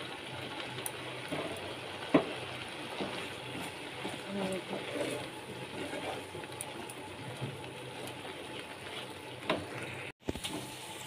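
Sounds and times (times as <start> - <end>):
mixture bubbling and sizzling in a pan: 0.0 - 11.0.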